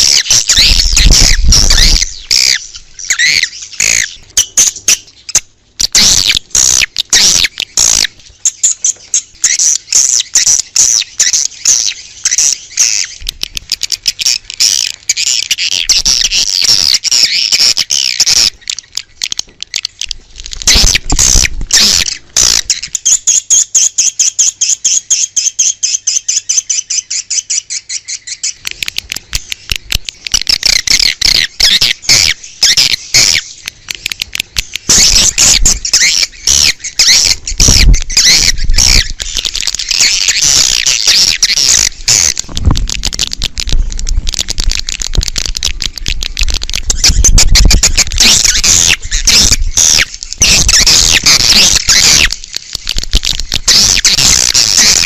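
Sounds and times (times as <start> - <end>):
swiftlets chirping and twittering: 0.0 - 55.0.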